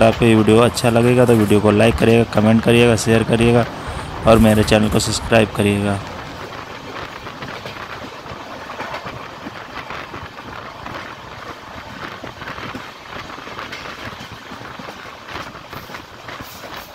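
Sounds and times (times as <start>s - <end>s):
train running rumble: 0.0s - 16.9s
wheels clicking on rails: 0.0s - 16.9s.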